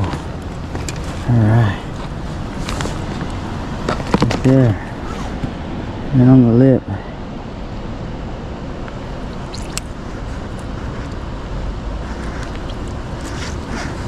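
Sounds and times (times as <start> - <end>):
river water rushing: 0.0 - 14.0
wind rumbling on microphone: 0.0 - 14.0.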